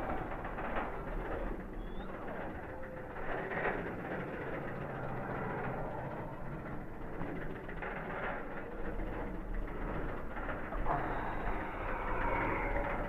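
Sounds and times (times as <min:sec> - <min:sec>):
roller coaster train rumbling: 0:00.0 - 0:13.0.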